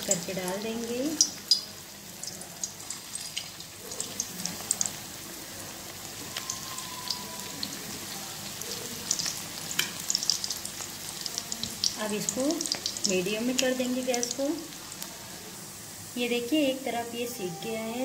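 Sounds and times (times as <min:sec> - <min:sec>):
food deep-frying in oil: 0:00.0 - 0:17.1.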